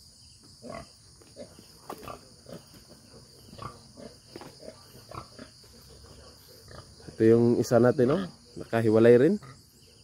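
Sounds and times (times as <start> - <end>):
high insect hum: 0.0 - 10.0
pigs grunting: 0.6 - 10.0.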